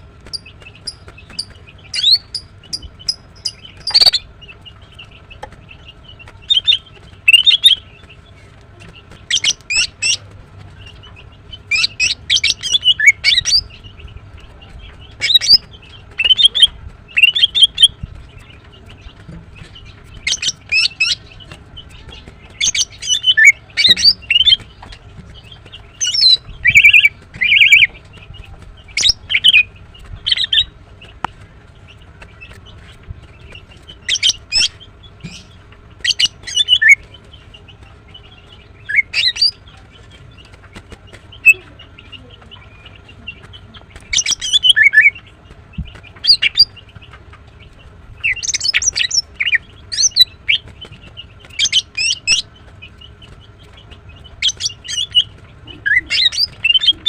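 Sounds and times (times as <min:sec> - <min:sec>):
bird chirping calls: 0:00.0 - 0:57.0.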